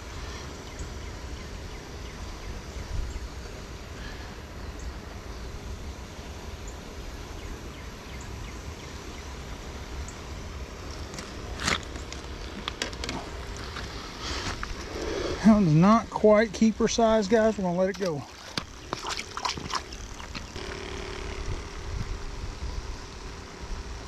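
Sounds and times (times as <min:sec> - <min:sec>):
river hiss and rumble: 0:00.0 - 0:24.0.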